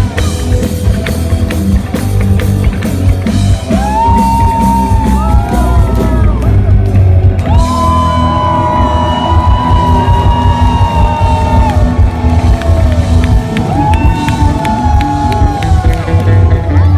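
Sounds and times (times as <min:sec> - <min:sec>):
live rock band playing: 0:00.0 - 0:16.9.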